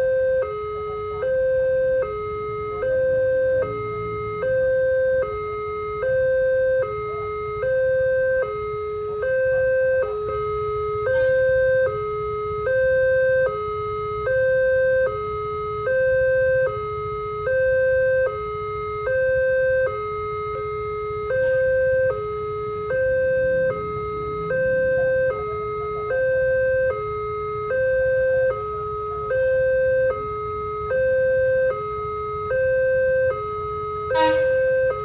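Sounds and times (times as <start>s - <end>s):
two-tone crossing alarm: 0.0s - 35.0s.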